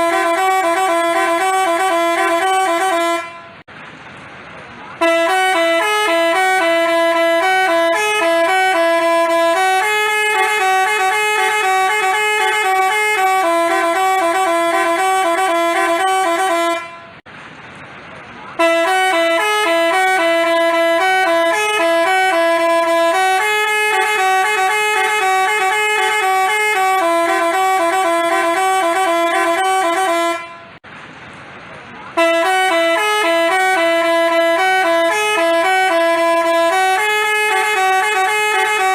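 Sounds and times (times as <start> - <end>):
bus multi-tone horn tune: 0.0 - 3.7, 4.9 - 17.3, 18.5 - 30.8, 32.1 - 38.9.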